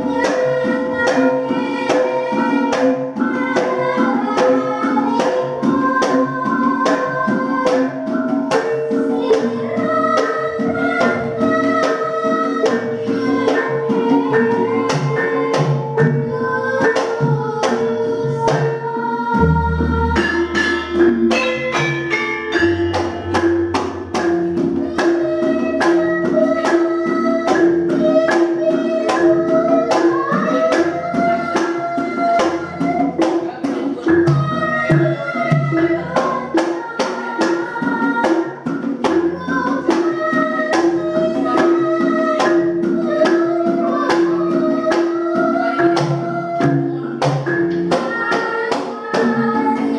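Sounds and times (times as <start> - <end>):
gamelan ensemble playing: 0.0 - 49.9
girl singing: 0.0 - 49.9
kendang drum: 0.0 - 49.9.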